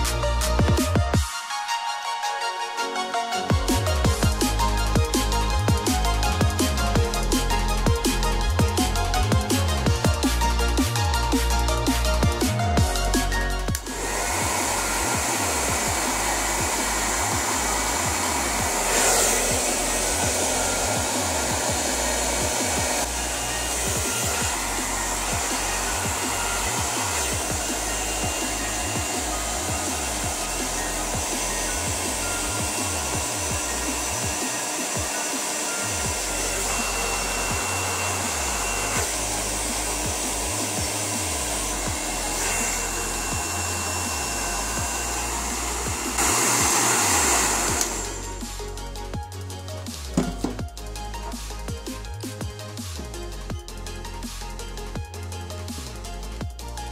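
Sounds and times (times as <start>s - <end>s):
hair dryer blowing: 0.0s - 50.6s.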